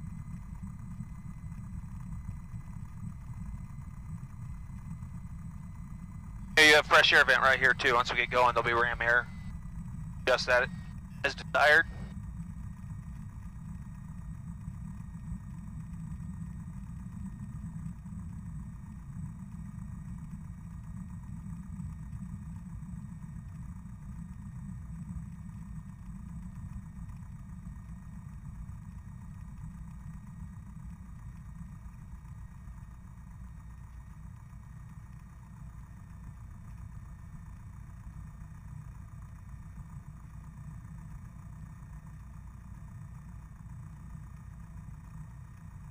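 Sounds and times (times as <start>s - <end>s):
propeller plane engine idling: 0.0s - 45.9s.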